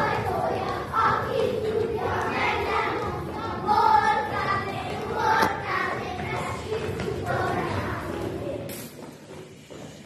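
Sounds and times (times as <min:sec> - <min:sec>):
children singing in unison: 0:00.0 - 0:08.8.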